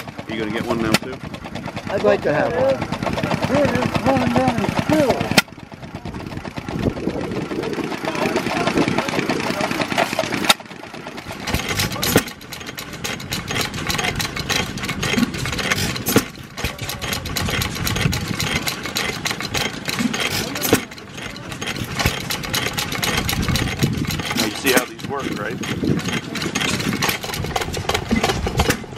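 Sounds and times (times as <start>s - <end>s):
engine rumble: 0.0s - 28.9s
stationary engines clicking and popping: 0.0s - 28.9s.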